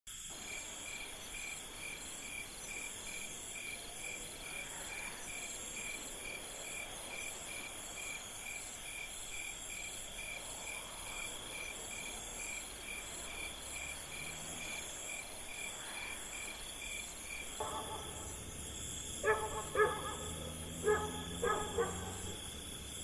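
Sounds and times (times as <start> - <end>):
cricket chirping evenly: 0.1 - 23.0
crickets trilling: 0.1 - 23.0.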